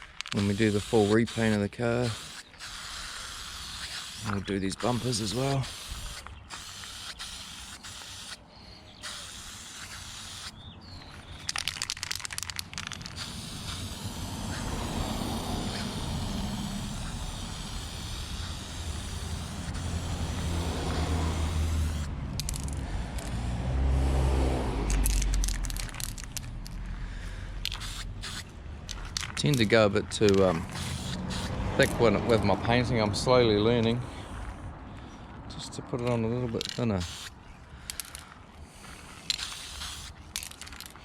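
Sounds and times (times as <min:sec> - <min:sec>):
spray paint can hissing: 0:00.0 - 0:10.6, 0:11.2 - 0:23.5, 0:24.9 - 0:26.8, 0:27.5 - 0:32.2, 0:36.6 - 0:38.2, 0:38.8 - 0:41.0.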